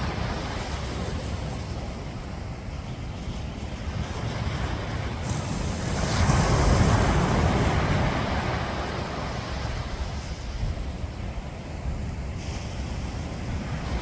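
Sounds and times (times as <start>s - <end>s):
ocean waves breaking on beach: 0.0s - 14.0s
wind rumbling on microphone: 0.0s - 14.0s.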